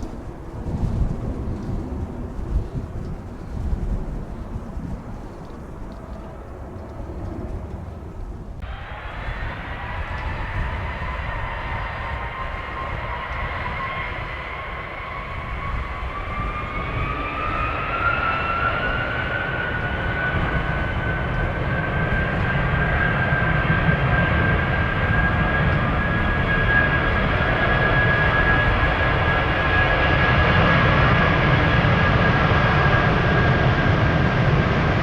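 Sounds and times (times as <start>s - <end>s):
jet engines whining: 0.0s - 35.0s
low rumble: 0.0s - 35.0s.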